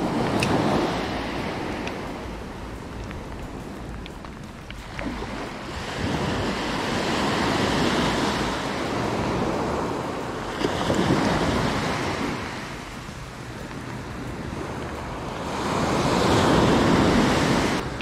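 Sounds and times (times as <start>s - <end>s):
small waves breaking on beach: 0.0s - 18.0s
wind on microphone: 0.0s - 18.0s.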